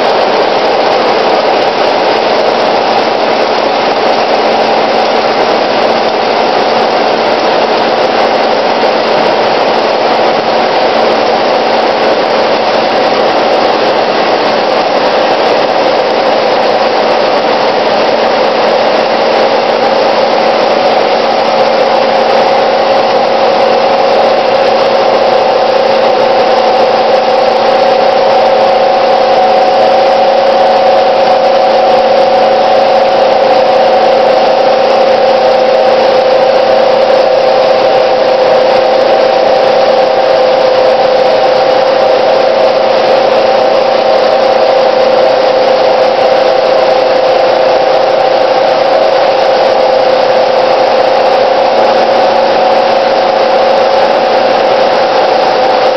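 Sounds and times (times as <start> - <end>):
machine drone with humming tones: 0.0 - 55.9.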